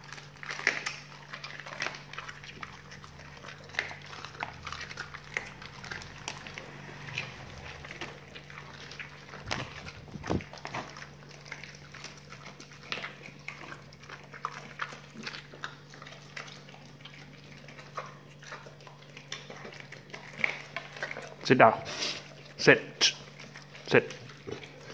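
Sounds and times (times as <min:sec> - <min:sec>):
dogs crunching bones: 0:00.0 - 0:24.9.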